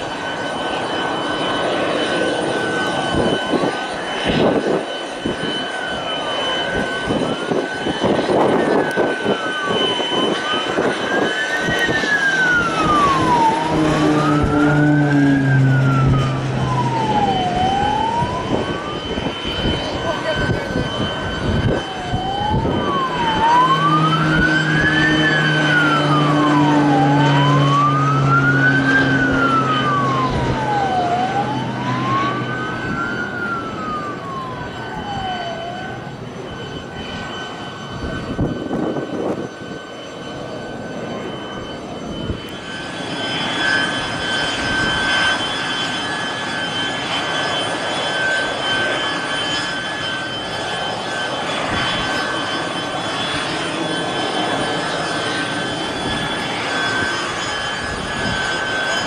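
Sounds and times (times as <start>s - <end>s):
high turbine whine: 0.0s - 59.0s
siren wailing: 0.0s - 59.0s
turboprop aircraft engine drone: 0.0s - 59.0s.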